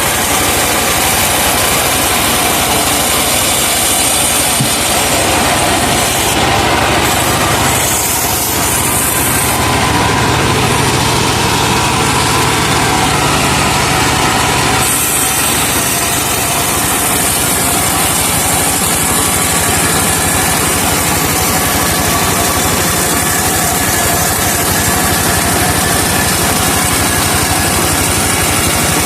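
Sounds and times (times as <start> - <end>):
sawmill engine running under load: 0.0 - 29.0.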